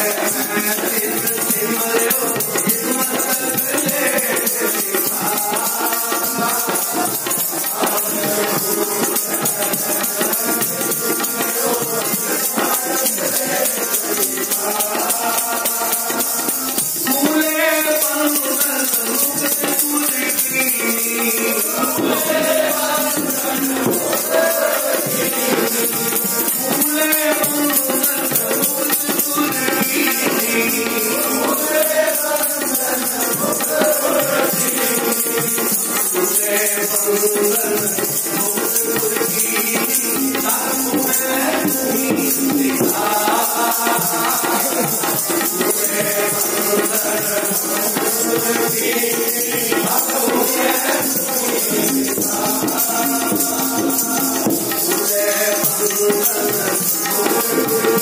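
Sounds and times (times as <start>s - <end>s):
devotional hymn singing: 0.0s - 58.0s
jingling percussion beat: 0.0s - 58.0s.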